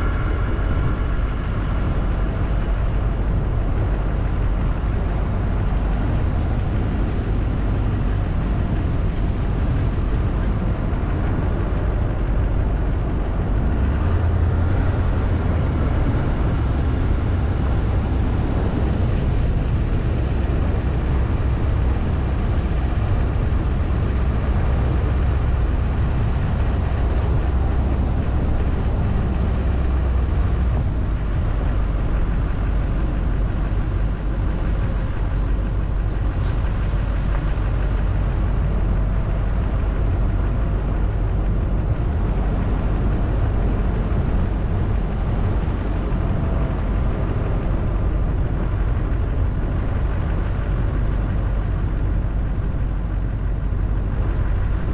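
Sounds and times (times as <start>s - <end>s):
vehicle engine rumble: 0.0s - 54.9s.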